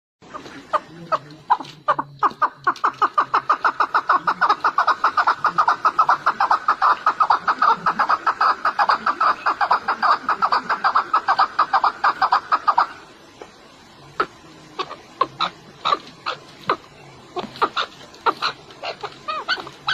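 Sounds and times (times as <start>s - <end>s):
bird calling in rapid sharp notes: 0.2s - 13.2s, 14.1s - 19.9s.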